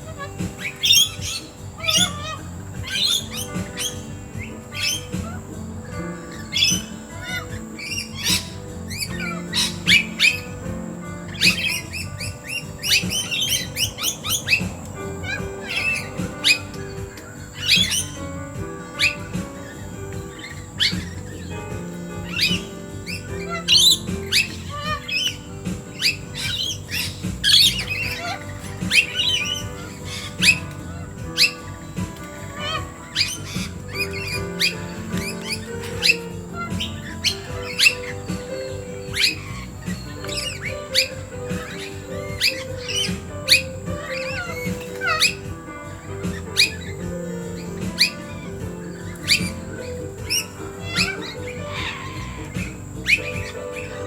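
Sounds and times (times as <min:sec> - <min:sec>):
background music low notes: 0:00.0 - 0:54.0
birds squawking and chirping: 0:00.0 - 0:54.0.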